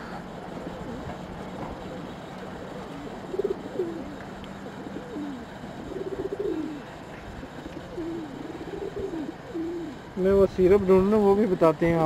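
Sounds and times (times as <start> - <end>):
pigeons cooing: 0.0 - 10.5.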